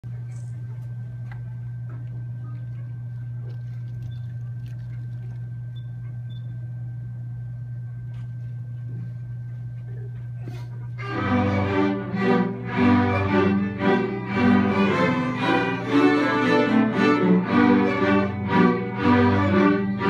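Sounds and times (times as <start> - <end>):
room noise hum: 0.0 - 20.0.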